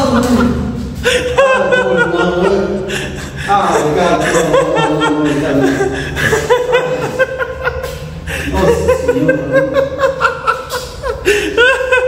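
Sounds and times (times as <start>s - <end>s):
person laughing: 0.0s - 12.0s.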